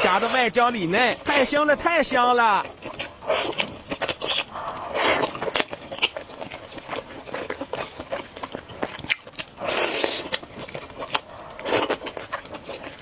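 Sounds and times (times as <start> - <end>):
crunchy chicken chewing: 0.0 - 13.0.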